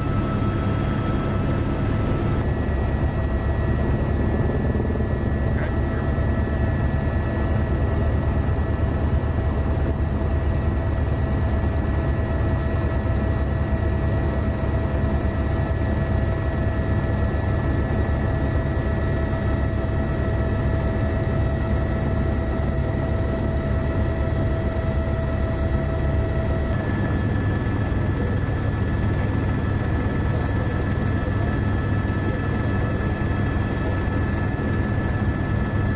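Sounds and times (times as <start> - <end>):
aircraft engine drone: 0.0 - 35.9
steady whining tones: 0.0 - 35.9.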